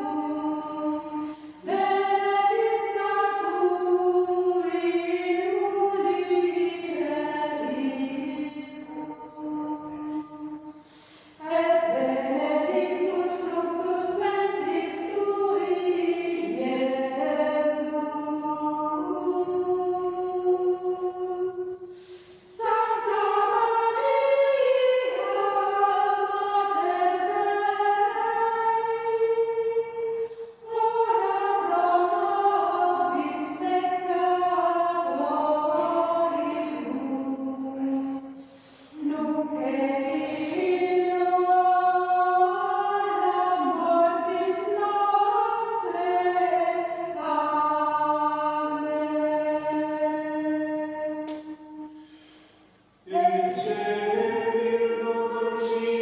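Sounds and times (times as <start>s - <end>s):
vocal ensemble singing unaccompanied: 0.0s - 56.0s.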